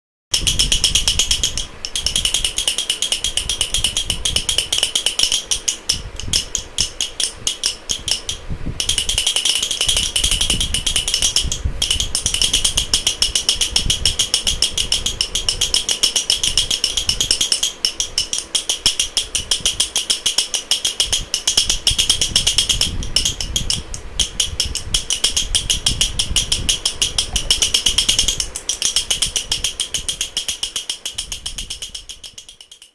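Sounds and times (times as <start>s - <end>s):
wooden baby rattle clicking: 0.3s - 32.9s.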